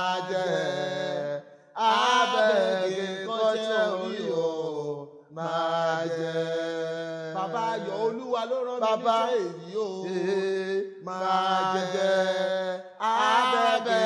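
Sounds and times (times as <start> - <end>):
person singing chant-like phrases: 0.0 - 14.0.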